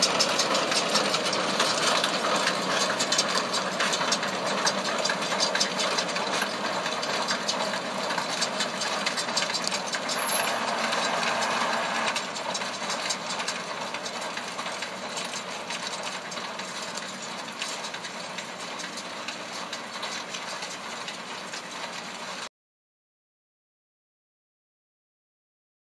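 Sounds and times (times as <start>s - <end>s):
wagon clattering and rattling: 0.0s - 22.3s
tractor engine running: 0.0s - 22.5s.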